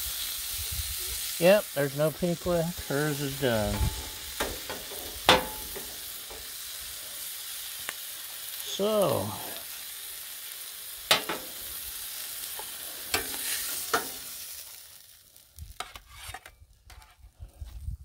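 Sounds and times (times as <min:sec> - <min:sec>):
steak sizzling on griddle: 0:00.0 - 0:16.8.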